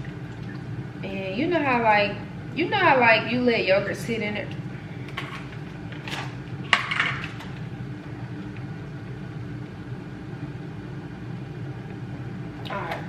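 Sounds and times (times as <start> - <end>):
oven humming: 0.0 - 13.0.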